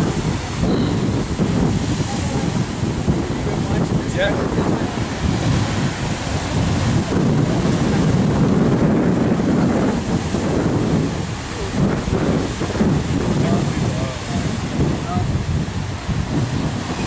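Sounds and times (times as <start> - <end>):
ocean surf crashing on rocks: 0.0 - 17.0.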